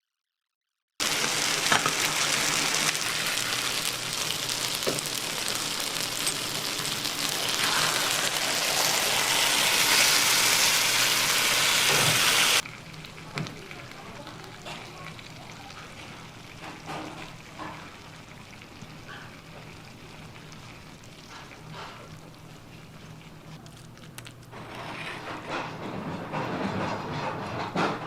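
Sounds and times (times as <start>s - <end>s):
food sizzling in a pan: 1.0s - 23.6s.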